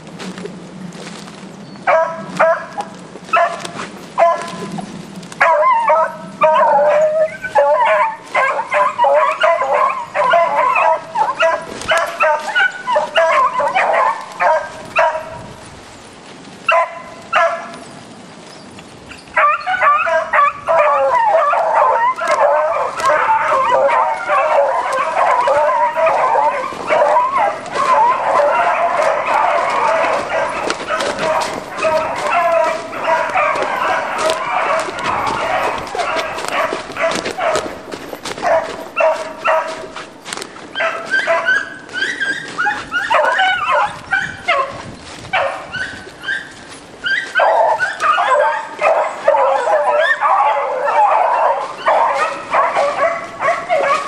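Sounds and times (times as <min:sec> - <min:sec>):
hounds baying and yelping: 0:00.9 - 0:16.0, 0:16.6 - 0:54.0.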